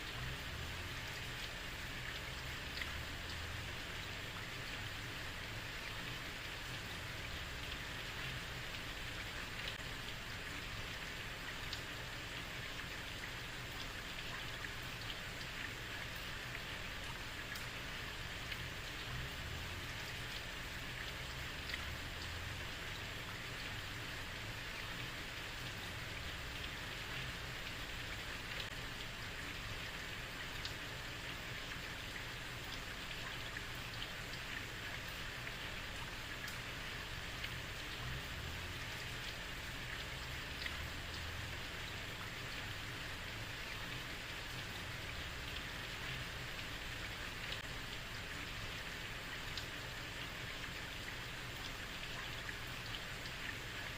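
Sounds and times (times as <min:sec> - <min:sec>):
heavy rain on street: 0:00.0 - 0:53.9.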